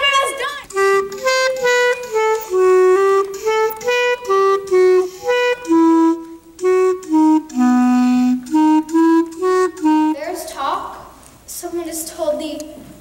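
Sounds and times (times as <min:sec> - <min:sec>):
clarinet solo melody: 0:00.0 - 0:10.4.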